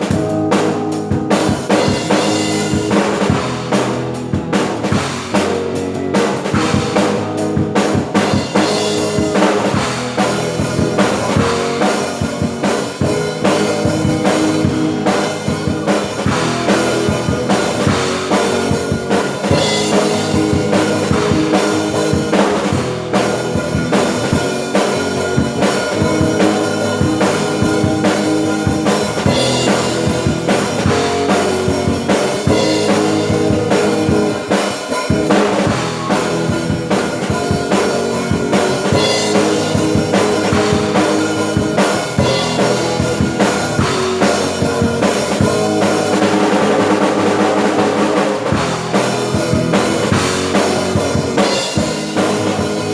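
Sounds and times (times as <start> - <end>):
band playing worship song: 0.0 - 52.9
drum kit beat: 0.0 - 52.9.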